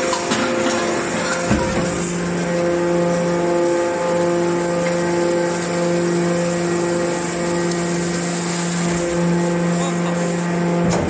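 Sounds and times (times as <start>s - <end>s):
hydraulic pump humming: 0.0s - 11.0s.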